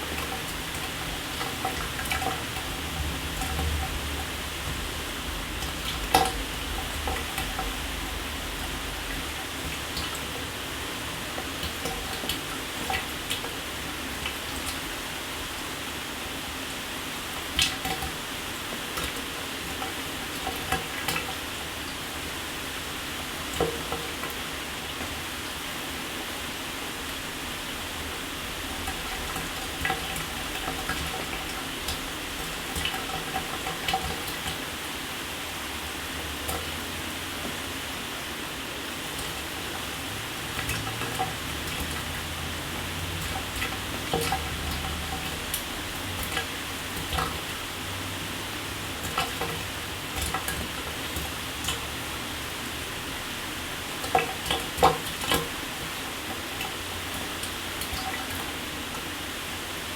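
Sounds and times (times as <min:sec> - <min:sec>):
water spatters and drips: 0:00.0 - 0:15.6, 0:16.7 - 0:22.2, 0:27.0 - 0:35.0, 0:36.1 - 0:38.0, 0:39.0 - 0:59.8
water splashes: 0:00.0 - 0:15.7, 0:27.0 - 0:59.9.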